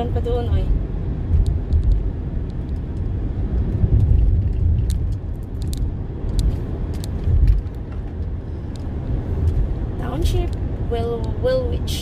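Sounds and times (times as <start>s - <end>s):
car driving on paved road: 0.0s - 12.0s
tyre and wind noise: 0.6s - 11.9s.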